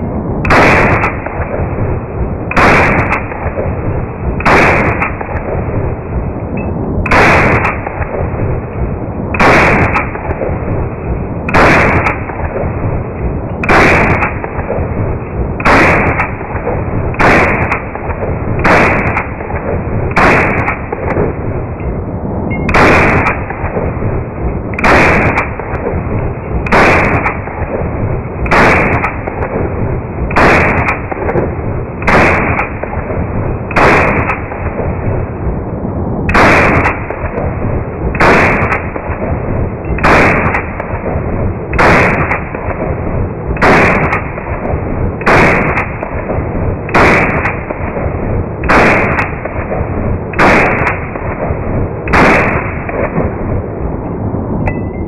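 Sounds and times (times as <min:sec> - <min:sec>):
rifle shots: 0:00.0 - 0:35.4, 0:36.3 - 0:54.0
low rumble: 0:00.0 - 0:55.0.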